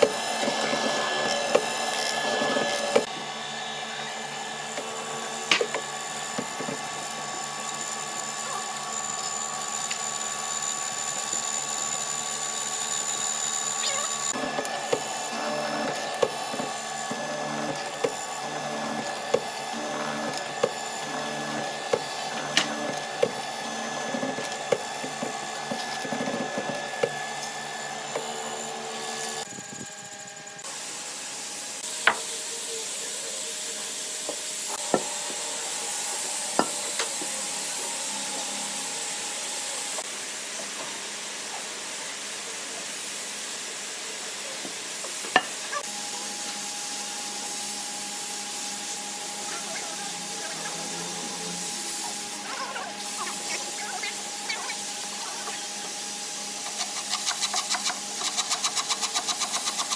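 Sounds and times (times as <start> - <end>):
mortising machine cutting wood: 0.0 - 29.6, 31.3 - 41.4, 44.3 - 59.9.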